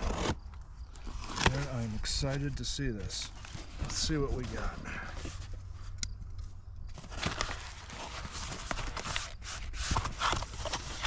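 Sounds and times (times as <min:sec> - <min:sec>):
cardboard and packaging rustling: 0:00.0 - 0:06.0, 0:06.9 - 0:11.0.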